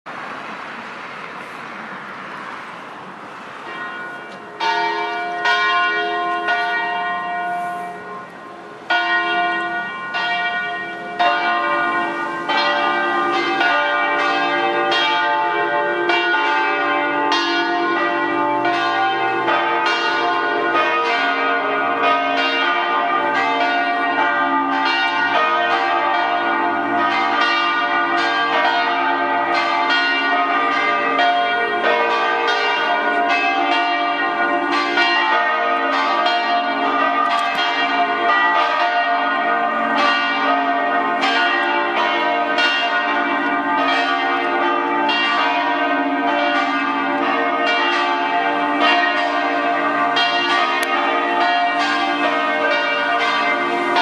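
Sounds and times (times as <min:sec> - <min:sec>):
church bells pealing: 0:00.1 - 0:54.0.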